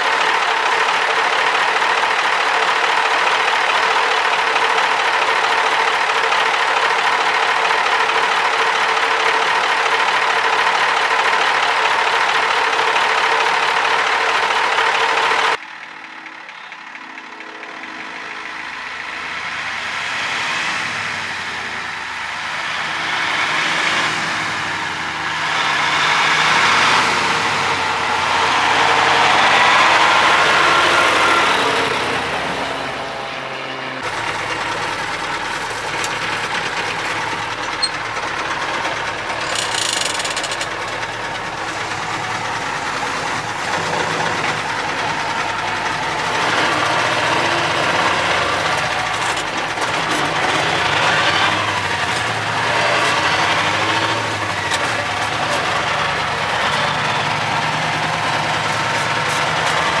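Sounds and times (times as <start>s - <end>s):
diesel truck engine running: 0.0s - 60.0s.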